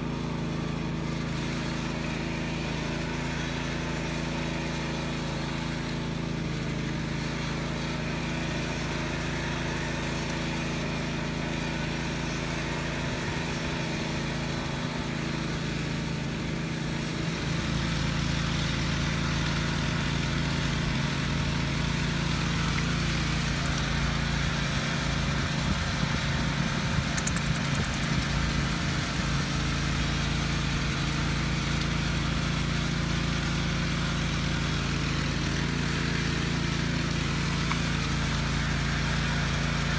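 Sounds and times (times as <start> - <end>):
power trowel engine running: 0.0 - 39.9.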